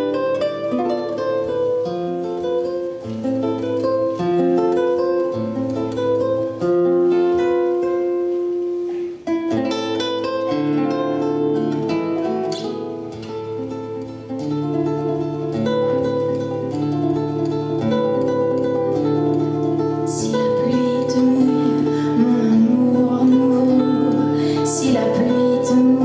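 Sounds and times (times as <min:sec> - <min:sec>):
plucked guitar melody: 0:00.0 - 0:26.0.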